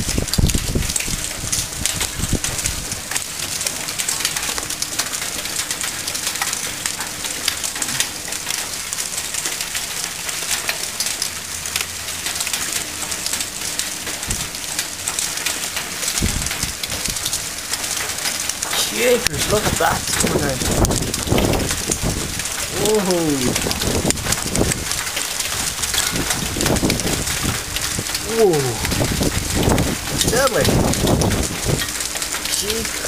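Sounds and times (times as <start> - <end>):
hailstones clattering: 0.0 - 33.0.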